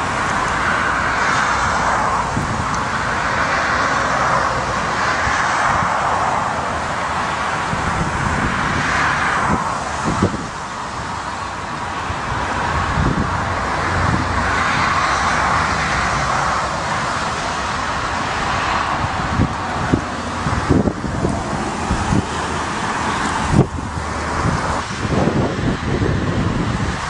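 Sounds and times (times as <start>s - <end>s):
jet engines running: 0.0s - 27.0s
wind buffeting microphone: 0.0s - 27.0s.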